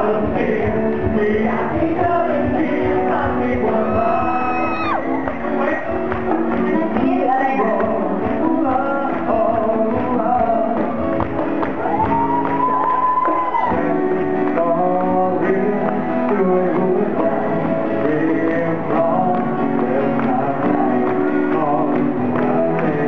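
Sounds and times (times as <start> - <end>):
person singing: 0.0 - 23.0
pop band playing: 0.0 - 23.0.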